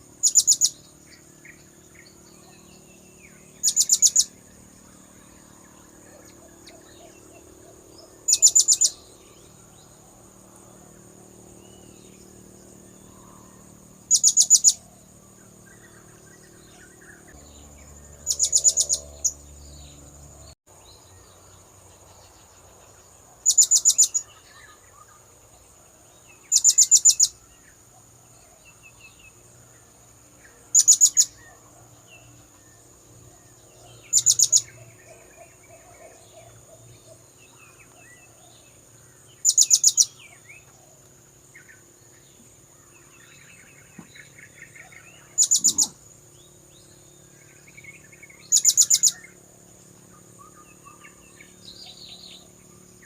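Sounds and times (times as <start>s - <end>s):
faint bird chirps: 0.0s - 53.0s.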